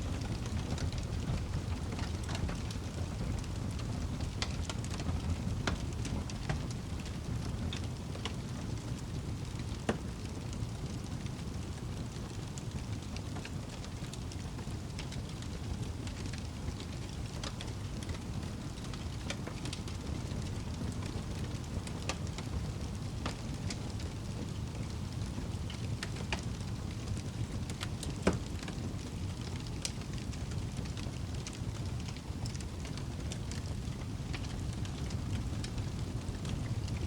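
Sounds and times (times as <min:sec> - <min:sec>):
fire crackling and popping: 0:00.0 - 0:37.0
wood fire rumble: 0:00.0 - 0:37.0.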